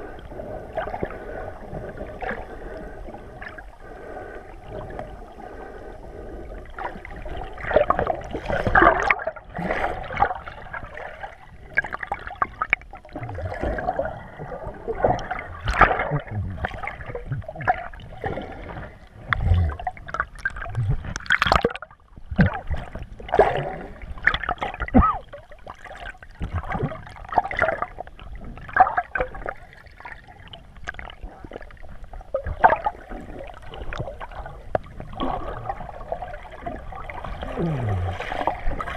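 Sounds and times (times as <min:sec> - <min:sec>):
muffled underwater water sloshing: 0:00.0 - 0:38.9.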